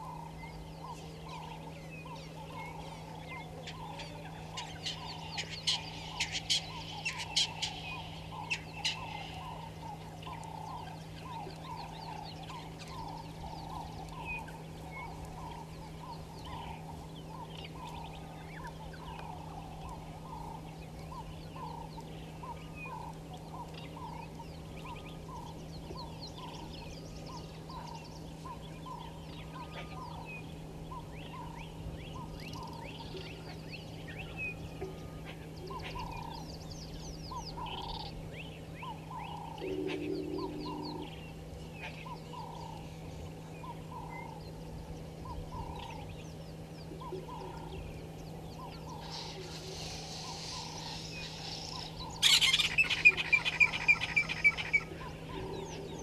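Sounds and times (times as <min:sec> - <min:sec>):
birds calling: 0:00.0 - 0:56.0
birds chirping: 0:00.0 - 0:56.0
low electrical hum: 0:00.0 - 0:56.0.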